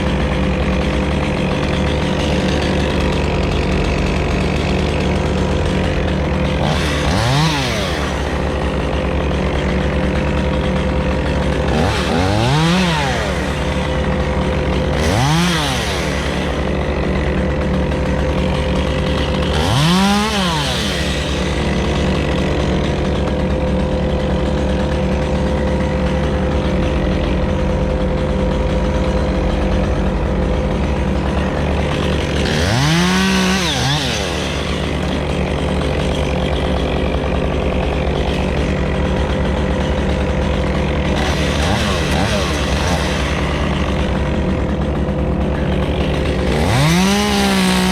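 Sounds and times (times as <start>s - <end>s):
chainsaw revving: 0.0s - 47.9s.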